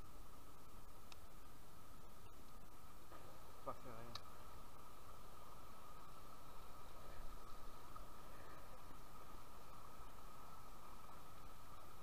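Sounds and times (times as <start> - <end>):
river running over rocks: 0.0 - 12.0.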